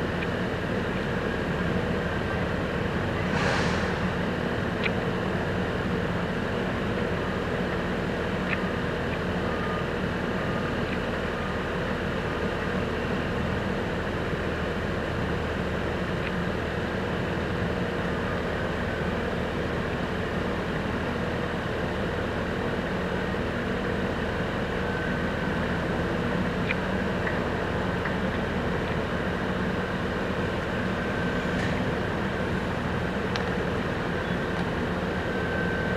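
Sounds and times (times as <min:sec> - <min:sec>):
construction machinery engines: 0:00.0 - 0:35.9
street traffic: 0:00.0 - 0:35.9.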